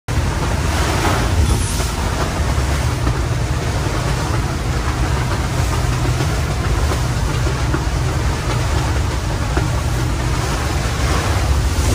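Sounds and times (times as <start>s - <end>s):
boat engines droning: 0.1s - 11.9s
rush of wind and water: 0.1s - 11.9s.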